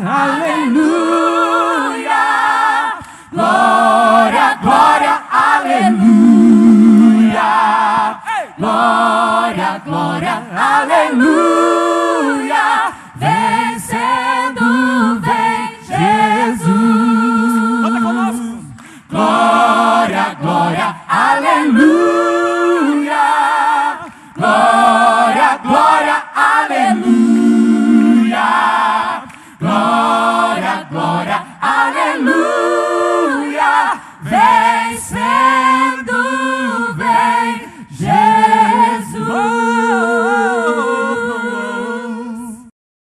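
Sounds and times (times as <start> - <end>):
a cappella worship singing: 0.0 - 42.7.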